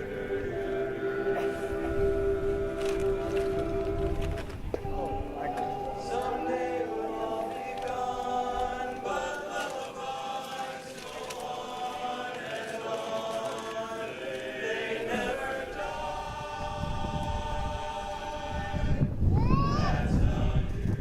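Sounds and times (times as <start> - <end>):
men's chorus singing a cappella: 0.0 - 21.0.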